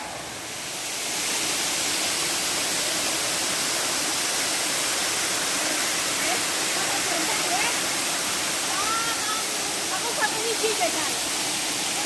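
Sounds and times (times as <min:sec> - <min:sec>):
waterfall splashing: 0:00.0 - 0:12.0.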